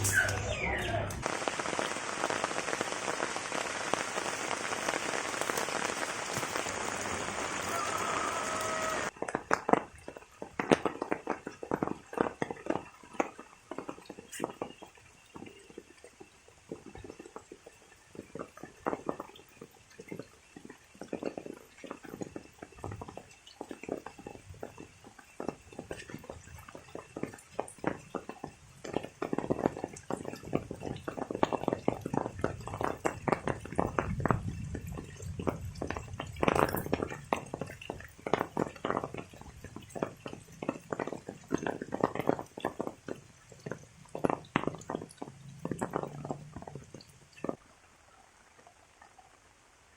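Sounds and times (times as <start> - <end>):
rain dripping and splashing: 0.0 - 49.9.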